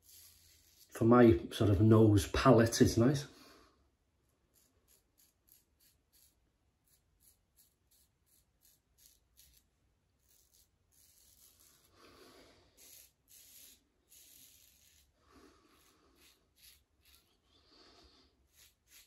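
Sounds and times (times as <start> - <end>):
razor scraping stubble: 0.0 - 1.9, 4.4 - 19.0.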